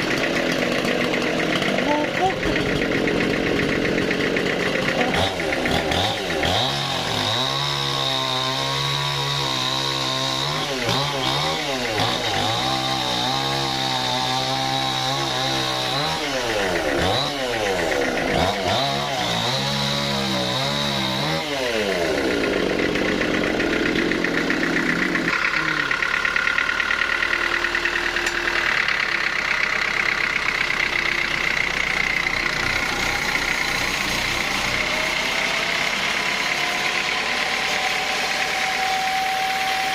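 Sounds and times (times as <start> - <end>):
engine-driven wood saw cutting: 0.0 - 39.9.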